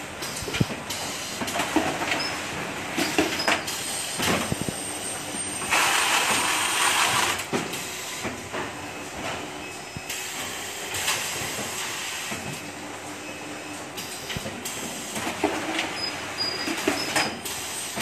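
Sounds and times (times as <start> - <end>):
packing machine hum and hiss: 0.0 - 18.0.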